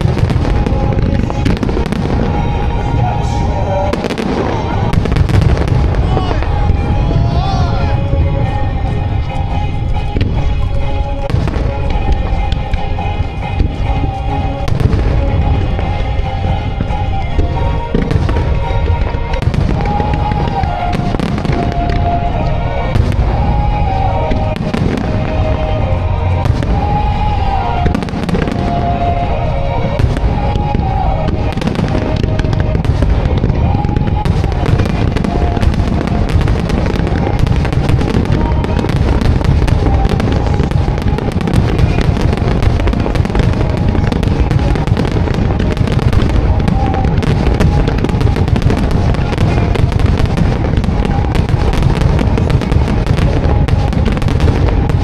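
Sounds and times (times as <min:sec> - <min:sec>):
fireworks bursts and crackling: 0:00.0 - 0:55.0
music playing: 0:00.0 - 0:55.0.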